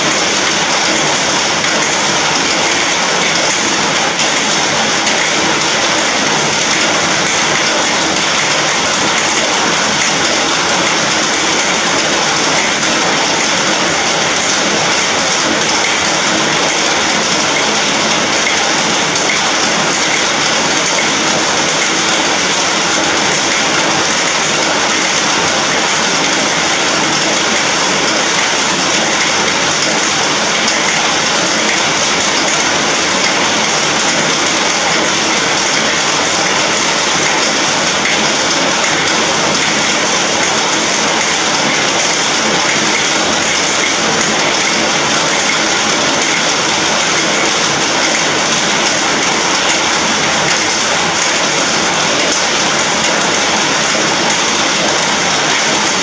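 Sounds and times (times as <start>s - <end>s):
rain on an iron roof: 0.0s - 56.0s.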